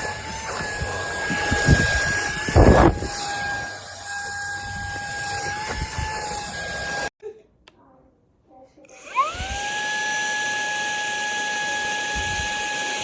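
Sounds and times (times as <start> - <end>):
handheld vacuum whining: 0.0 - 7.1, 8.9 - 13.0.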